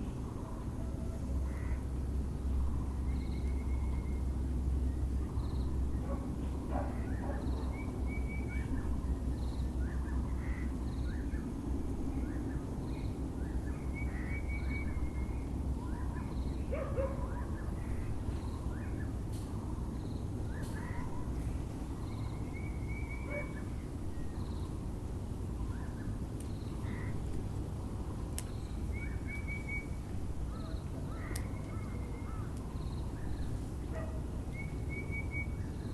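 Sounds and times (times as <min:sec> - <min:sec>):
birds chirping: 0:00.0 - 0:24.9, 0:25.5 - 0:35.9
low city rumble: 0:00.0 - 0:35.9.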